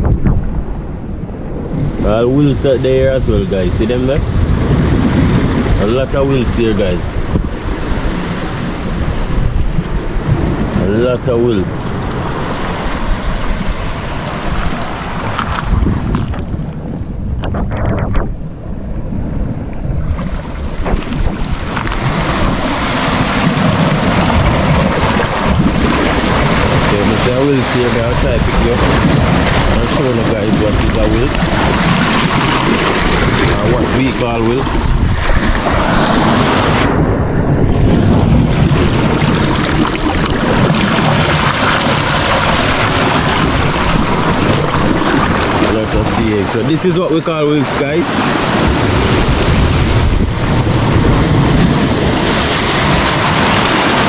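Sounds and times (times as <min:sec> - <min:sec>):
sea surf: 0:00.0 - 0:54.0
wind buffeting microphone: 0:00.0 - 0:54.0
waves washing against rocks: 0:00.1 - 0:54.0.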